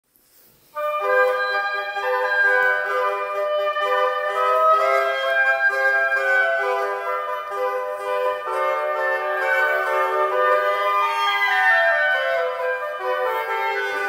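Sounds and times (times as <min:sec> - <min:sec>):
oboes playing classical music: 0:00.7 - 0:14.0.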